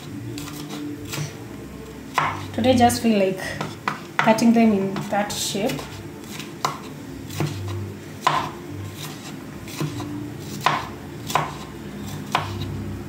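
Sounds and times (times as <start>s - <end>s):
knife chopping on wooden board: 0.4s - 1.4s, 2.1s - 2.5s, 3.6s - 12.7s.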